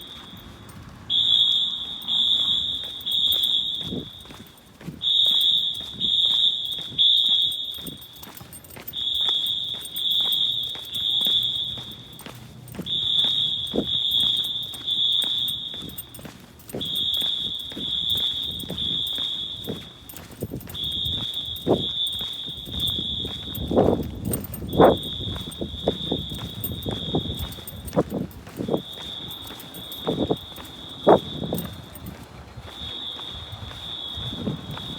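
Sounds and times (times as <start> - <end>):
fire alarm beeping: 0.0 - 34.9.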